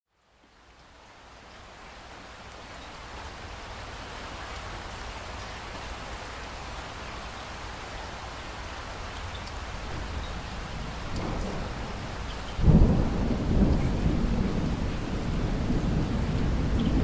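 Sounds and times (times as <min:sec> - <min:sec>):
steady rain falling: 0:00.1 - 0:17.0.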